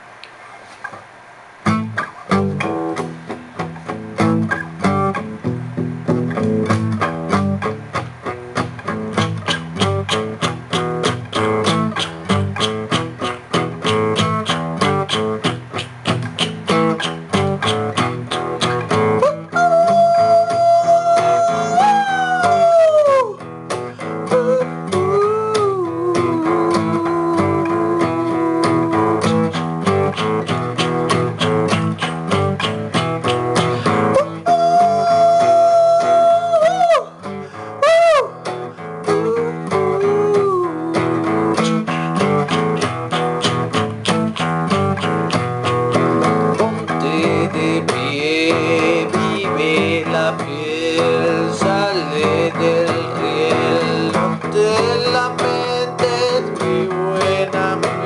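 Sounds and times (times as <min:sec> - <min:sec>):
picked guitar over bass: 0:01.6 - 0:58.0
bending lead guitar note: 0:01.7 - 0:58.0.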